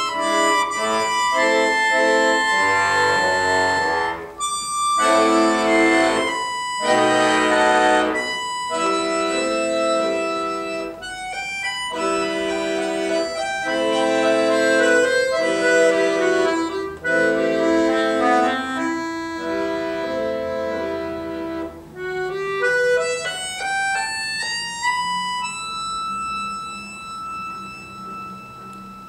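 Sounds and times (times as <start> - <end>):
button accordion playing: 0.0 - 29.0.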